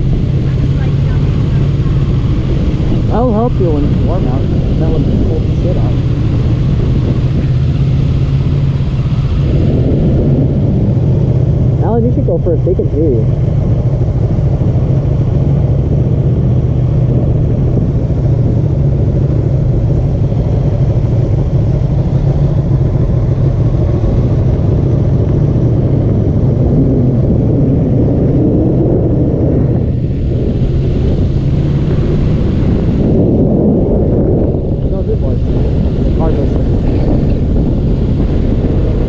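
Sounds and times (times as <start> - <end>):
motorcycle engine droning: 0.0 - 39.0
road noise: 0.0 - 39.0.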